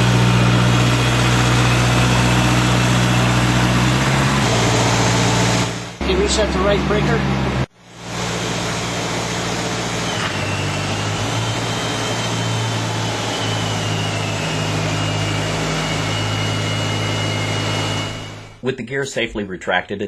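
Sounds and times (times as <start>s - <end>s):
landing gear whine sliding lower: 0.0s - 18.6s
ground power machine hum: 0.0s - 18.7s.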